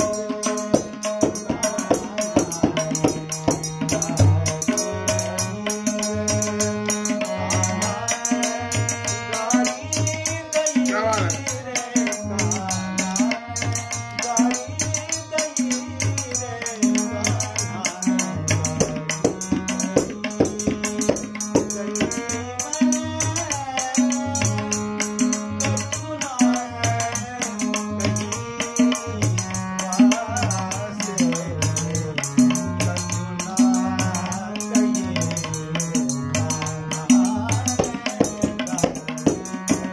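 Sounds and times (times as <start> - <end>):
hand percussion: 0.0 - 39.9
harmonium: 0.0 - 39.9
man singing: 0.0 - 39.9.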